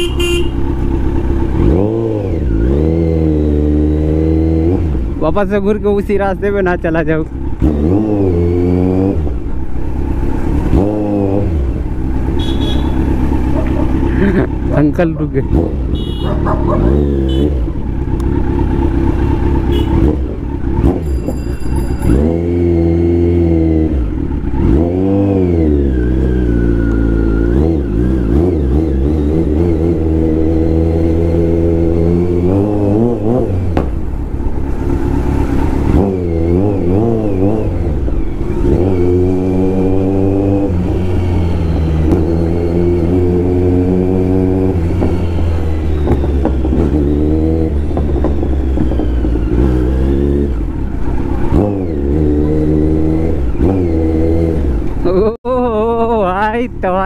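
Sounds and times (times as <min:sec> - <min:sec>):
motorcycle engine revving: 0:00.0 - 0:55.4.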